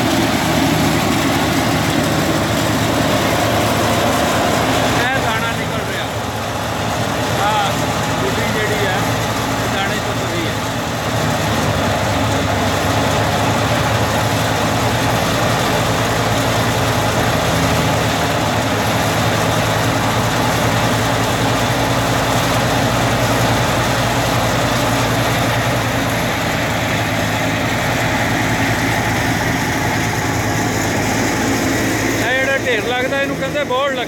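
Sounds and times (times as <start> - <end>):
threshing machine whirring: 0.0 - 34.0
tractor engine hum: 0.0 - 34.0.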